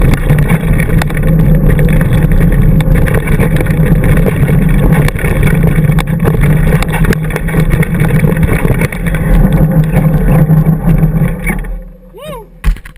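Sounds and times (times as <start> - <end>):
bike rattling over bumps: 0.0 - 12.9
bike tyres rumbling on gravel: 0.0 - 12.9.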